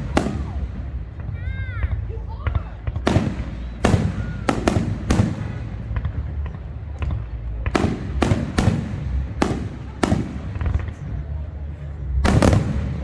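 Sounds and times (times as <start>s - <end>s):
fireworks bangs: 0.0s - 11.4s, 12.1s - 13.0s.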